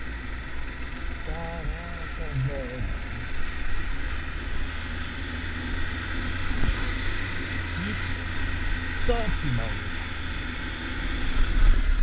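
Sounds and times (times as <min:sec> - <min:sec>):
motorcycle running: 0:00.0 - 0:12.0.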